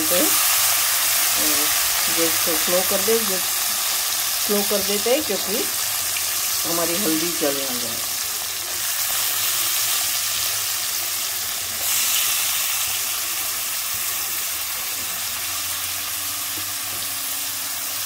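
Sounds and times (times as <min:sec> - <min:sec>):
mango frying in hot oil: 0:00.0 - 0:18.0.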